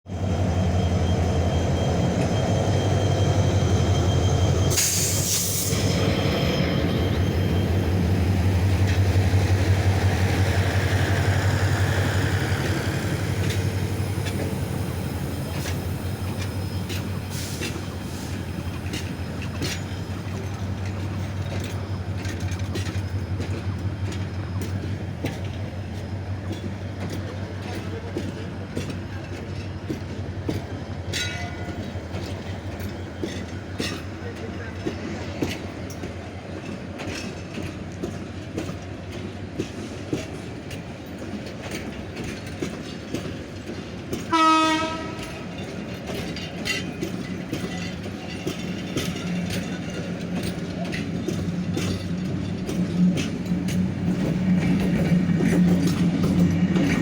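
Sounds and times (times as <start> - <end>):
diesel locomotive engines droning: 0.1 - 57.0
train wheels clicking over rail joints: 0.5 - 57.0.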